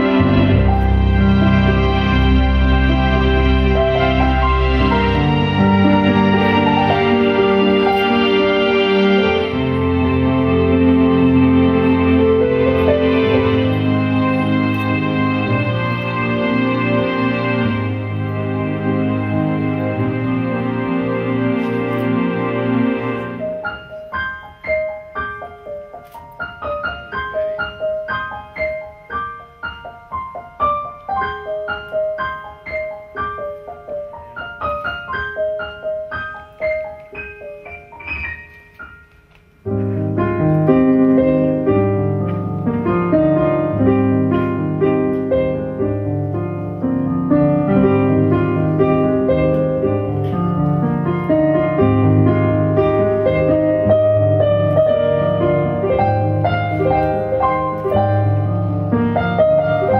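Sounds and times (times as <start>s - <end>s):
keyboard piano notes: 0.0s - 59.9s.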